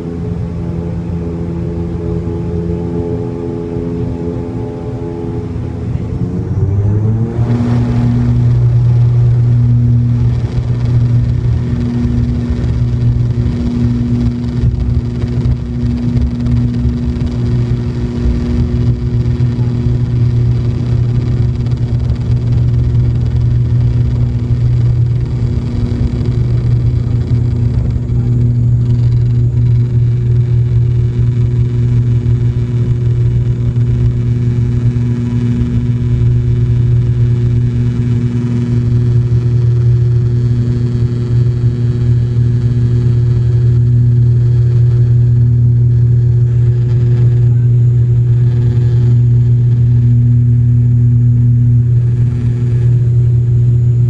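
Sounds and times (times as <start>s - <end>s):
turboprop propeller drone: 0.0s - 54.0s.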